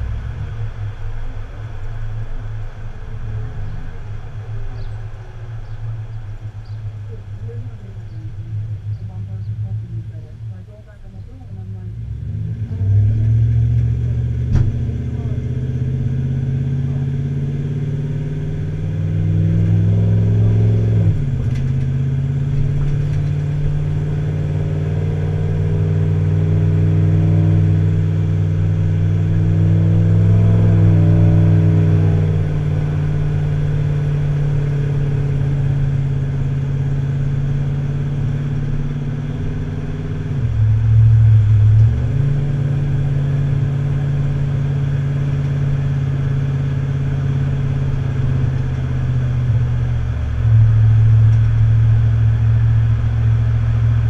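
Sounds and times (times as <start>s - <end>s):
vehicle engine running on road: 0.0s - 54.0s.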